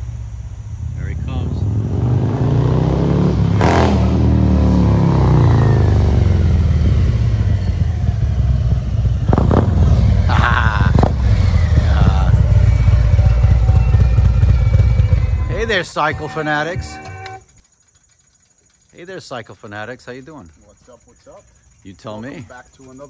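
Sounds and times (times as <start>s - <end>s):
motorcycle engine throbbing: 0.0s - 23.0s.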